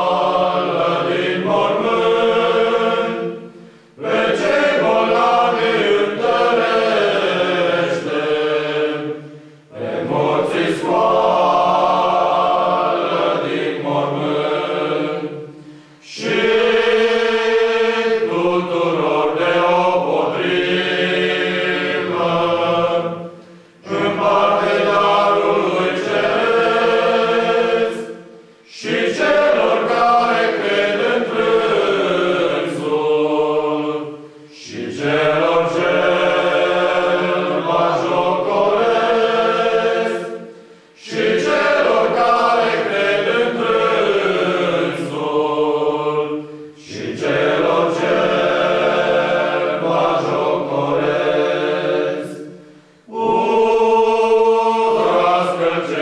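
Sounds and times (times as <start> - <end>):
male choir singing a cappella: 0.0 - 56.0.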